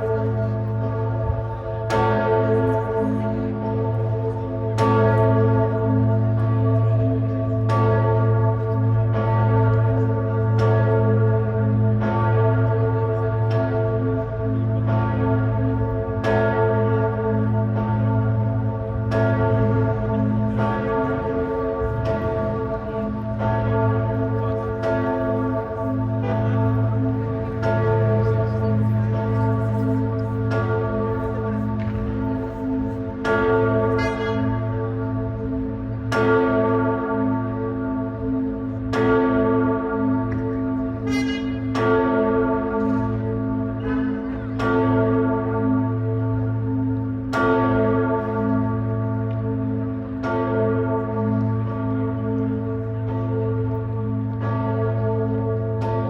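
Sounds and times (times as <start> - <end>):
church bell tolling: 0.0 - 56.0.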